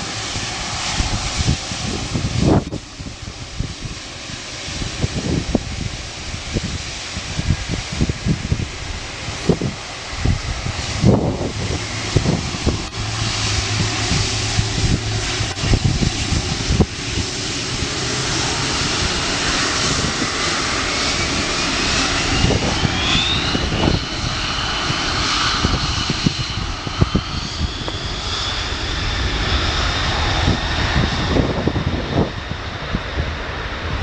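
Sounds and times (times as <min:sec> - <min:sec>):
jet engines roaring with high whine: 0:00.0 - 0:34.0.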